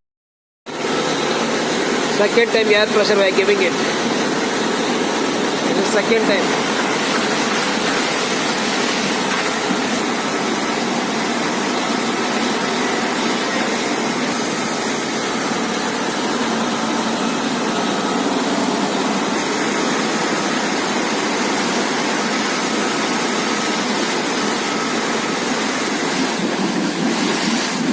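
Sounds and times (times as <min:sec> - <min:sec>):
compressor running: 0:00.7 - 0:27.9
rush of air and water: 0:00.7 - 0:27.9.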